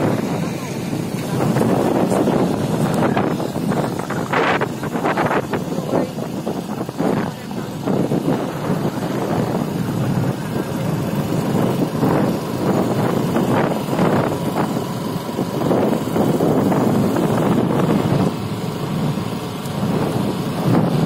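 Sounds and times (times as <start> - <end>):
vehicle running noise: 0.0 - 21.0
wind buffeting microphone: 0.0 - 21.0.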